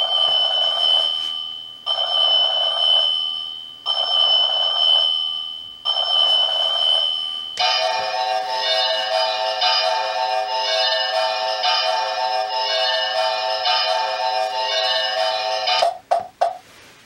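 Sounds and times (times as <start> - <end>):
synthesized large-bell chime: 0.0 - 15.8
electronic ringing bell alarm: 0.0 - 16.0.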